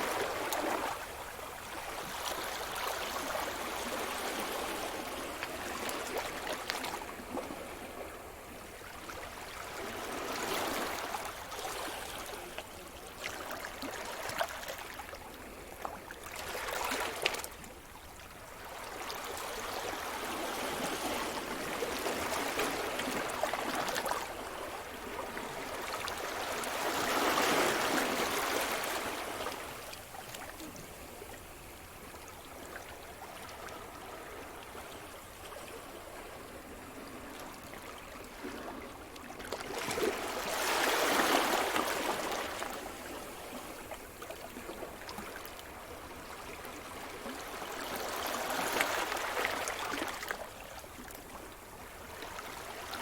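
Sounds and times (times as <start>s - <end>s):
waves breaking and washing: 0.0s - 53.0s.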